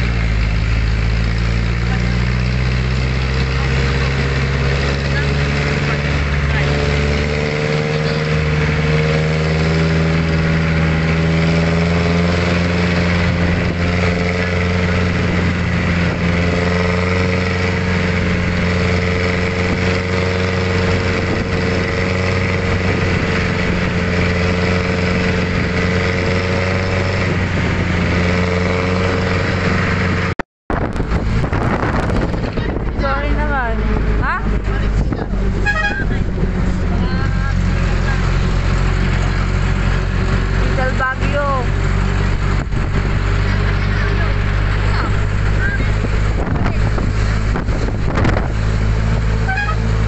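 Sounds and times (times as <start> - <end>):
vehicle engine and road noise: 0.0 - 50.0.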